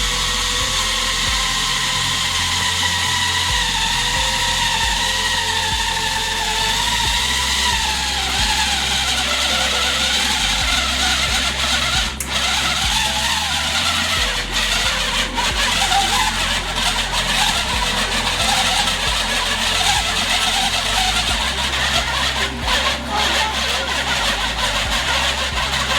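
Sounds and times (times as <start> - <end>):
dough kneading machine humming: 0.0 - 25.9.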